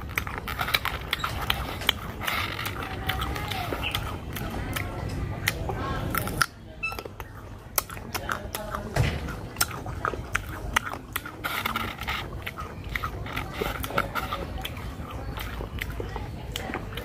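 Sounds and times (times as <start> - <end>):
biting and chewing: 0.0 - 17.0
crisp fruit crunching: 0.0 - 17.0.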